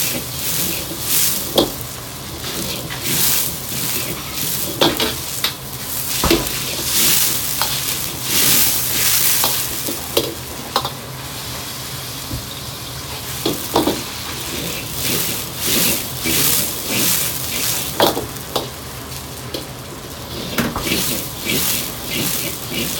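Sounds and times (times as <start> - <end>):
noodles sizzling in oil: 0.0 - 22.9.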